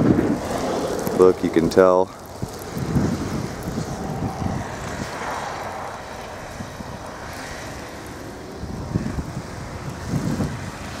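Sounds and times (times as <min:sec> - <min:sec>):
vehicle passing on snowy road: 0:00.0 - 0:11.0
wind buffeting microphone: 0:00.0 - 0:11.0.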